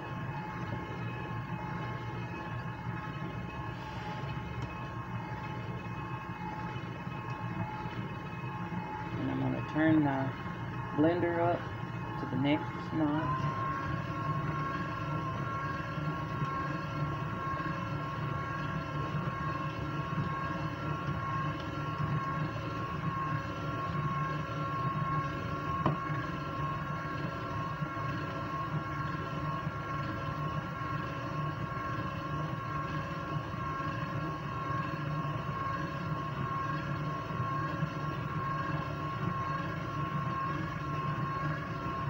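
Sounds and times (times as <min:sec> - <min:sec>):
stand mixer motor humming: 0:00.0 - 0:42.0.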